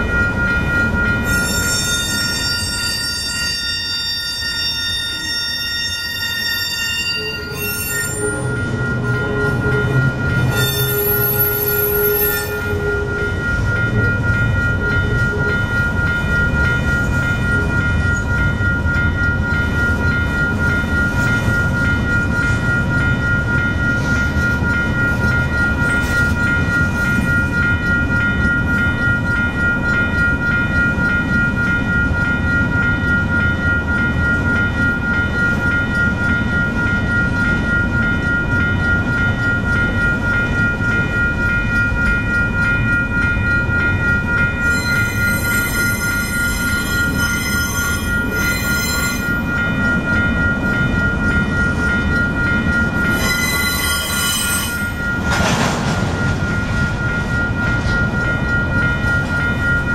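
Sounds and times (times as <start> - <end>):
crossing warning bell: 0.0 - 59.9
train wheels rumbling on rail: 0.0 - 59.9.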